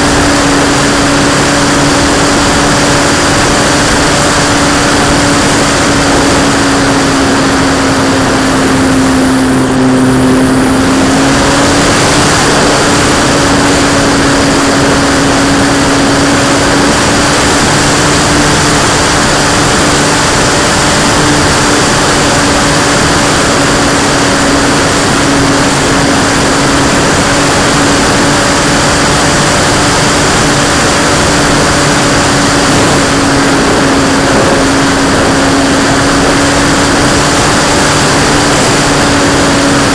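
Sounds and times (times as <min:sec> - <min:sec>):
aircraft engine droning: 0:00.0 - 0:39.9
wind rushing: 0:00.0 - 0:39.9.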